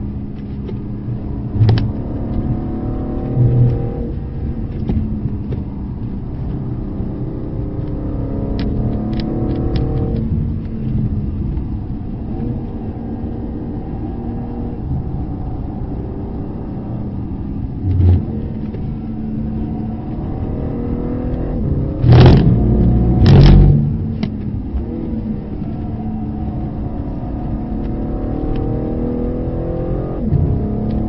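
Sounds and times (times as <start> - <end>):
race car engine: 0.0 - 31.0.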